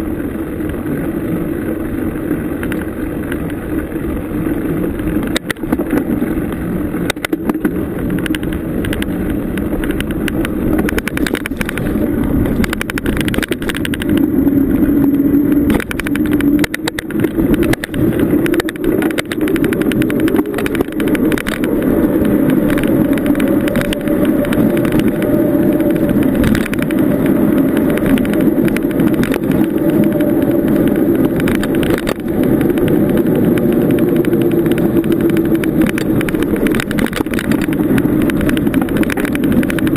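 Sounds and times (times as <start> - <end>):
bicycle tyres rumbling: 0.0 - 39.9
bike rattling over bumps: 0.0 - 39.9
wind on microphone: 0.0 - 39.9.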